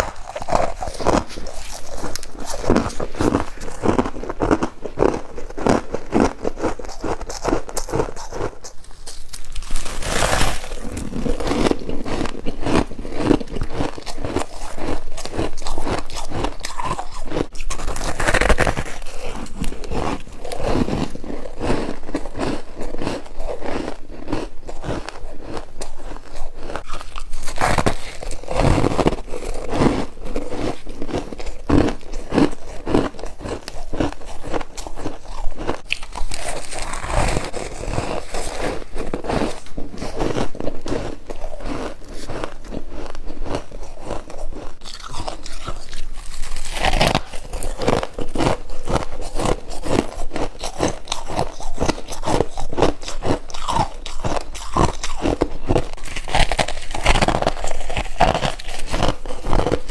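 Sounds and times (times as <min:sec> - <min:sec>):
frost being bitten and chewed: 0:00.0 - 0:59.9.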